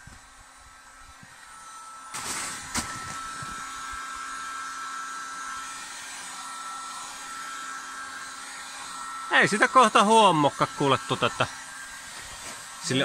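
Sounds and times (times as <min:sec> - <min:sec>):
heat gun blowing: 0:00.0 - 0:13.0.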